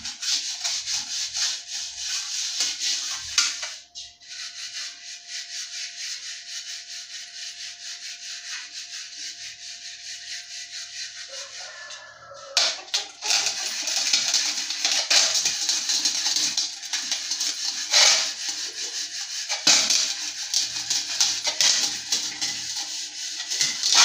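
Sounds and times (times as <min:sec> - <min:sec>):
scrubbing metal pot: 0:00.0 - 0:24.0.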